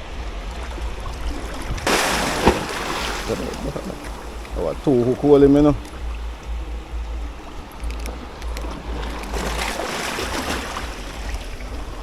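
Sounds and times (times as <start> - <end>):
waves washing over rocks: 0.0 - 12.0
wind rumbling on microphone: 0.0 - 12.0.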